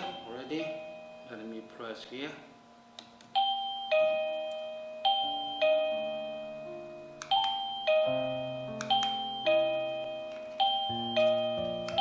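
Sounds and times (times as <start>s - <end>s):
doorbell chime melody: 0.0s - 1.5s, 3.4s - 12.0s.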